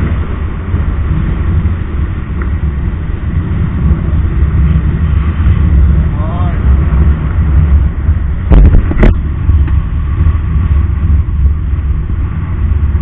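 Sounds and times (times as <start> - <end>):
road noise: 0.0 - 13.0
wind rumble: 0.0 - 13.0.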